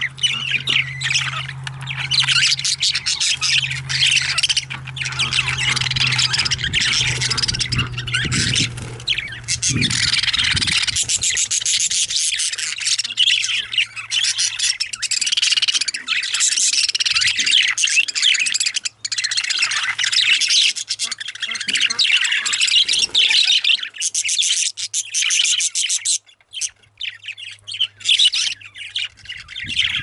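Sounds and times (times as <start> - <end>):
budgerigars chirping and warbling: 0.0 - 30.0.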